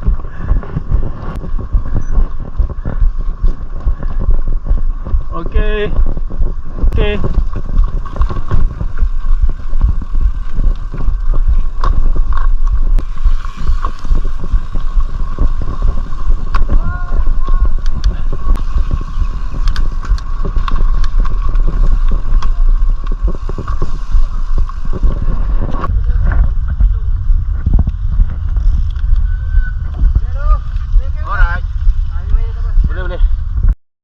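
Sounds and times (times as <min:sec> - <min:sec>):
bike clicks and rattles: 0:00.0 - 0:31.0
wind buffeting microphone: 0:00.0 - 0:33.8.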